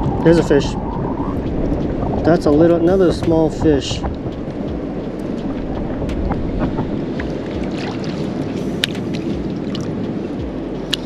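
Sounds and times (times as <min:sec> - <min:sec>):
surf rushing: 0:00.0 - 0:10.9
wind: 0:00.0 - 0:11.0.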